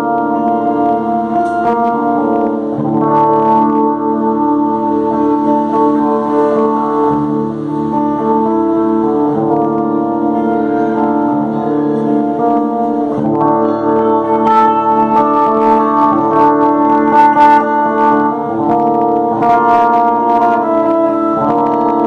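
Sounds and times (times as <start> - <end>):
electric guitar chords: 0.0 - 22.0
picked guitar notes: 0.0 - 22.0.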